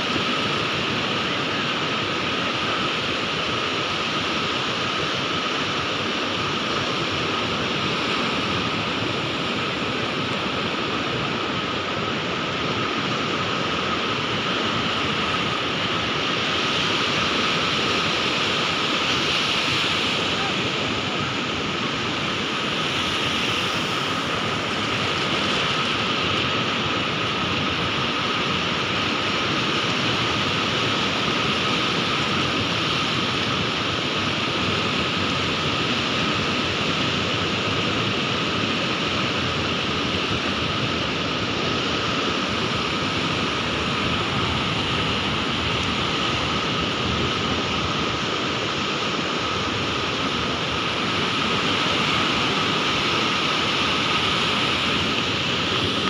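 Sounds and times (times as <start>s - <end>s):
sea waves rushing: 0.0s - 56.0s.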